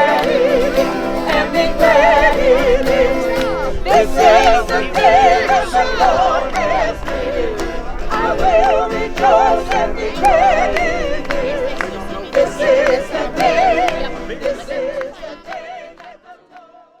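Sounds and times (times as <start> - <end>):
person singing with heavy vibrato: 0.0 - 16.9.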